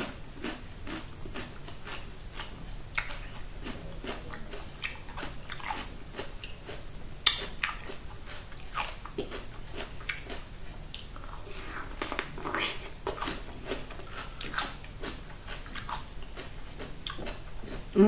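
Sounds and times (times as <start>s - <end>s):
wet crunchy chewing: 0.4s - 17.9s.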